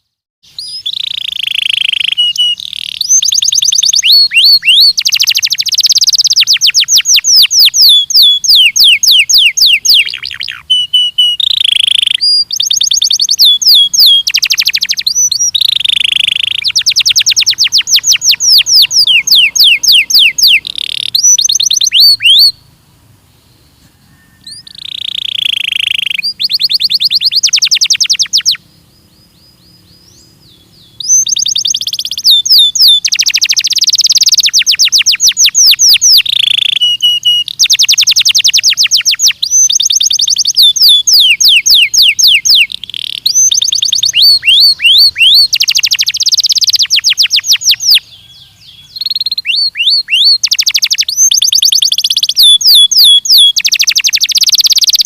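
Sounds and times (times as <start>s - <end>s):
canary singing fast trills: 0.4s - 55.0s.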